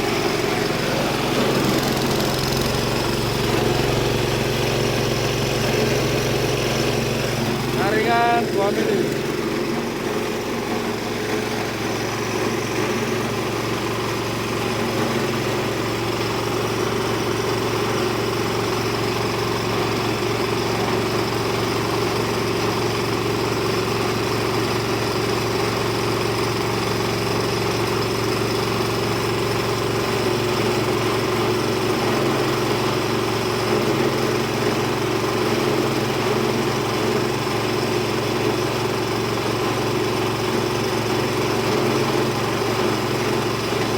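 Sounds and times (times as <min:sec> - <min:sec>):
chopper-grinder machine running: 0:00.0 - 0:43.9.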